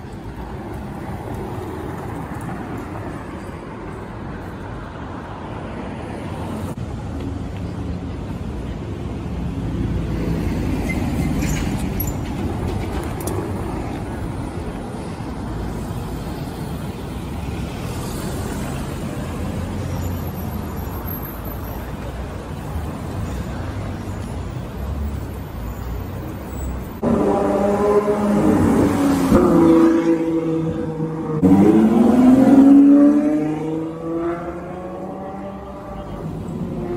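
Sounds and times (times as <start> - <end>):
city traffic rumble: 0.0 - 36.9.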